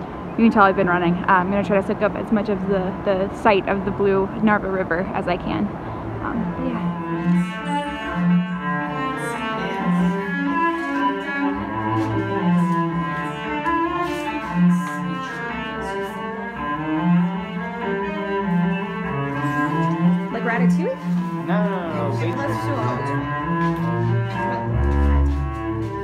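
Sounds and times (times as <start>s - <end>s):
bowed cello music: 0.0s - 26.0s.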